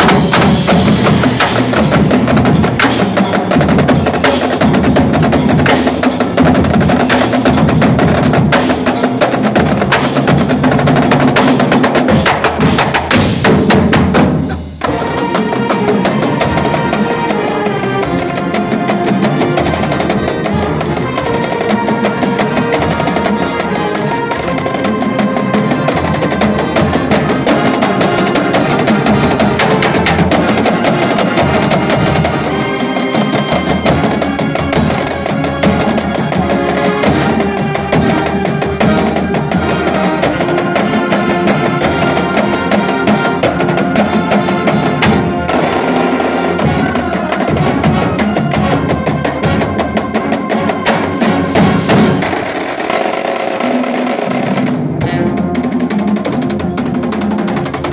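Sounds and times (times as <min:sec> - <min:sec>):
drumline percussion: 0:00.0 - 0:57.9
marching band playing: 0:00.0 - 0:57.9.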